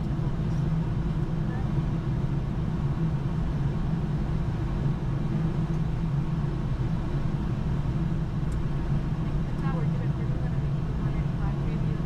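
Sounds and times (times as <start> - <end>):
aircraft engine and airflow drone: 0.0 - 12.0.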